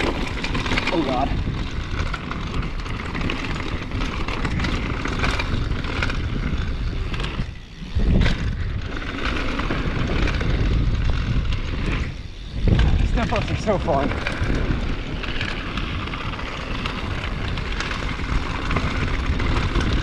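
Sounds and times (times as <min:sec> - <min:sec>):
tyre and frame rattle: 0:00.0 - 0:20.0
wind rumble on microphone: 0:00.0 - 0:20.0.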